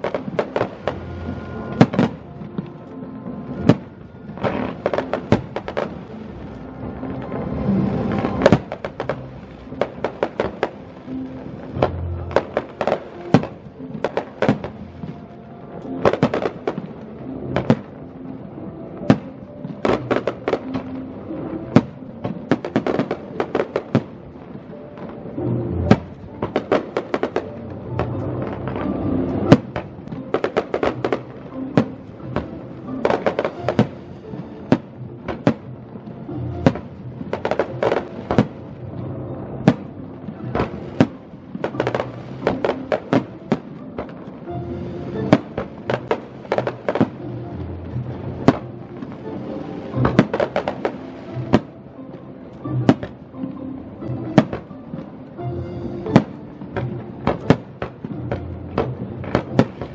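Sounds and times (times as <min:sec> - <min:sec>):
fireworks bursting: 0:00.0 - 0:53.3, 0:54.1 - 0:59.9
music playing: 0:00.0 - 0:59.9.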